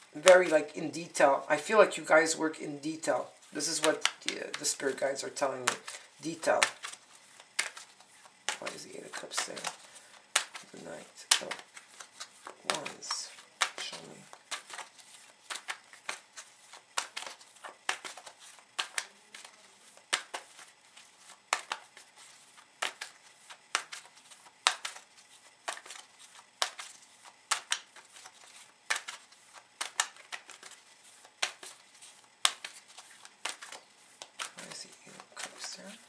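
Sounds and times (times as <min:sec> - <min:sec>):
cards being shuffled: 0:00.1 - 0:36.0.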